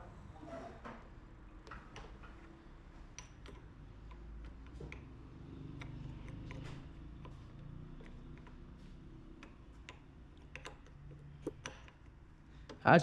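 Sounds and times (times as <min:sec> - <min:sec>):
tools clicking and tapping: 0:01.6 - 0:12.9.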